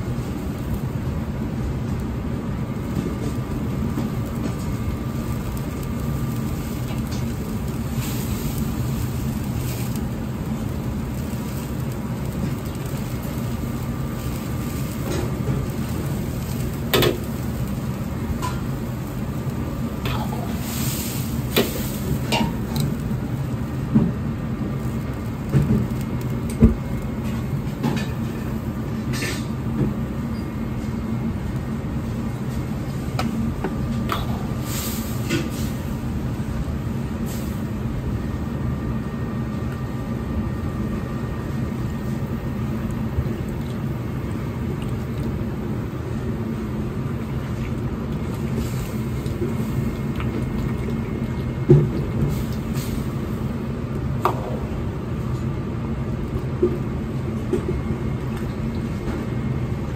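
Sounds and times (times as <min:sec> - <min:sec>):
sauce boiling: 0:00.0 - 0:59.9
wok burner rumble: 0:00.0 - 0:59.9.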